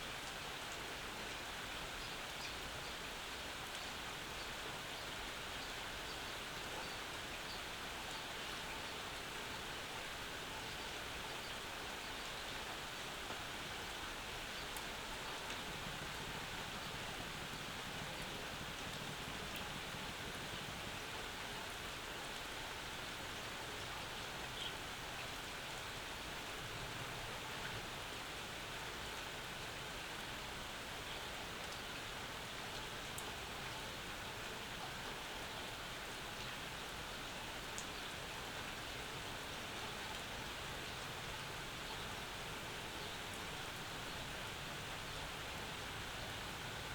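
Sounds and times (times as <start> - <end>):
rain pattering on surfaces: 0.0 - 46.9.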